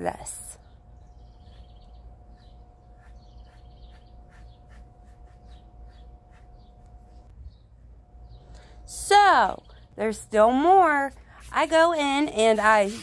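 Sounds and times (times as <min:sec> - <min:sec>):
faint steady hum: 0:00.0 - 0:12.8
small birds chirping: 0:00.5 - 0:13.0.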